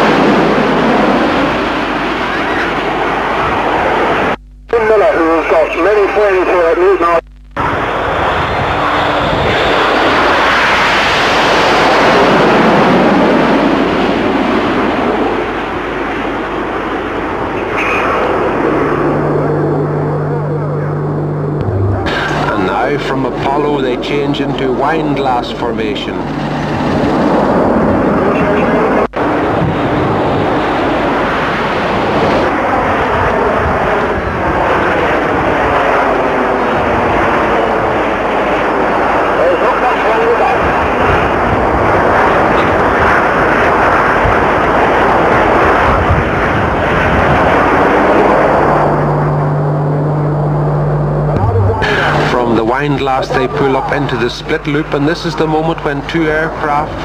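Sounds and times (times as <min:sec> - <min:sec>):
jets flying past: 0:00.0 - 0:04.4, 0:07.6 - 0:57.0.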